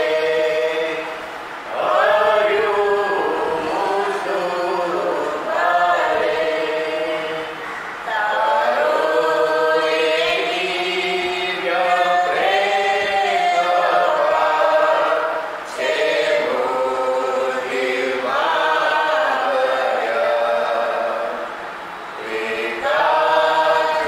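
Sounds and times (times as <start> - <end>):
congregation singing a hymn: 0.0 - 24.0.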